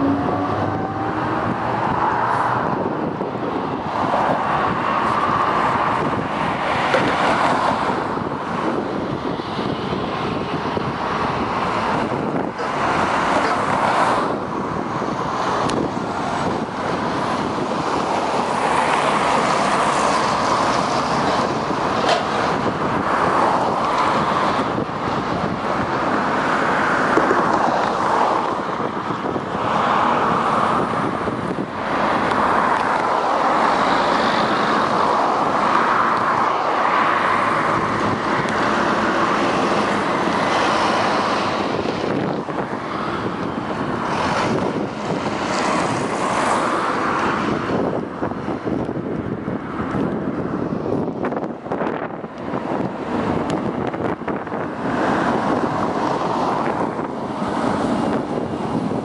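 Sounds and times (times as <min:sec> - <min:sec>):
road traffic passing: 0:00.0 - 0:59.0
wind on microphone: 0:00.0 - 0:59.0.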